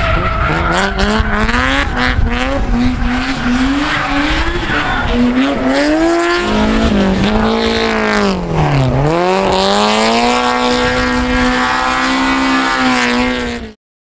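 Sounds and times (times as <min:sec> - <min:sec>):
rally car engine revving: 0:00.0 - 0:13.8.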